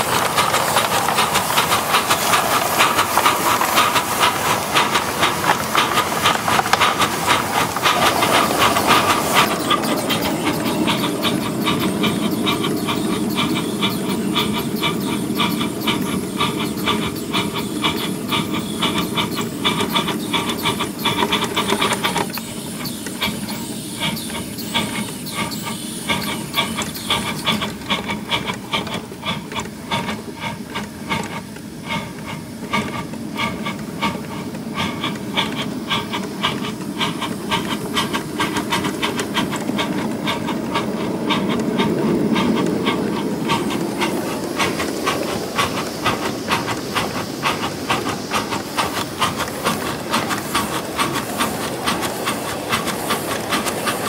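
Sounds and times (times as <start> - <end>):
steam hissing: 0.0 - 54.0
steam locomotive exhaust chuffs: 0.0 - 54.0.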